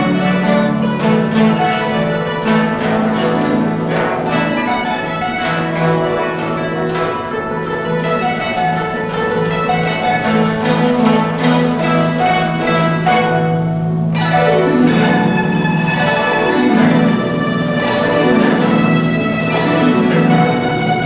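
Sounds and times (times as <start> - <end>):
guzheng playing fast passage: 0.0 - 21.0.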